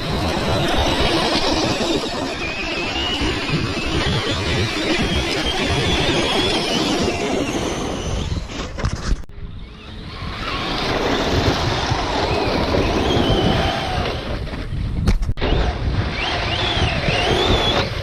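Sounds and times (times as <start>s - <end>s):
electric motors whining: 0.0s - 14.8s, 15.4s - 18.0s
wind noise on microphone: 0.0s - 18.0s.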